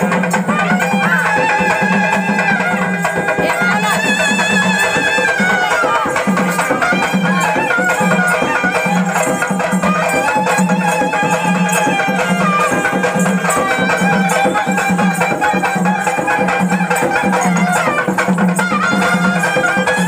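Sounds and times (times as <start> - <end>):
frame drums beating: 0.0 - 20.0
reedy wind instrument melody: 0.0 - 20.0.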